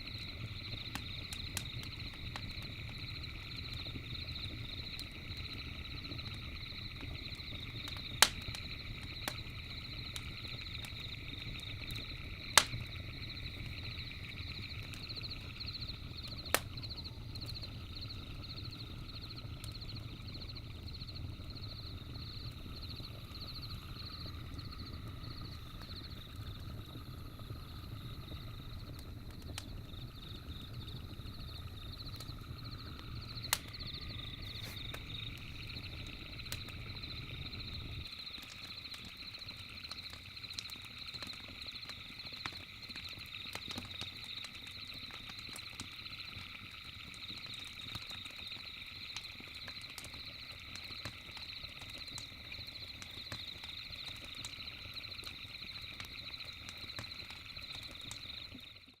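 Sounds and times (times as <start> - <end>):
campfire crackling: 0.0 - 58.9
night insects chirping: 0.0 - 59.0.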